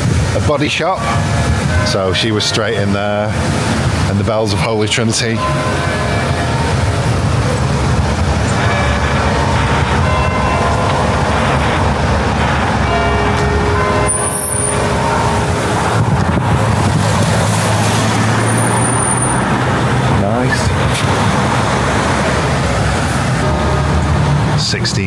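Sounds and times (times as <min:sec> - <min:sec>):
road traffic: 0:00.0 - 0:25.0
church bells ringing: 0:00.4 - 0:20.8, 0:21.4 - 0:25.0.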